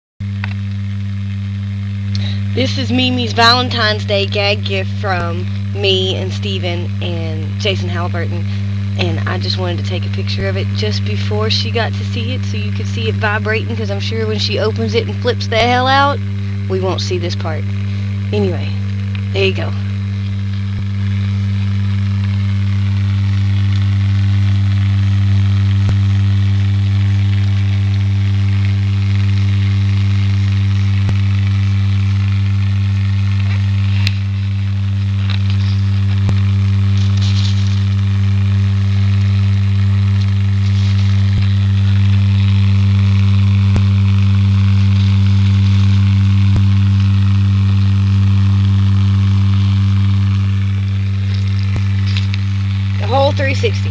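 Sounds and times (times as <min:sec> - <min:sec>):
vibrating motor buzzing: 0:00.0 - 0:53.9.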